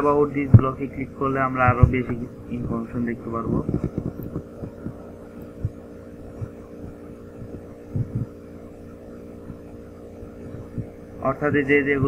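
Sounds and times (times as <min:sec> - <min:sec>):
soft low thumps: 0:00.0 - 0:12.0
steady low hum: 0:00.0 - 0:12.0.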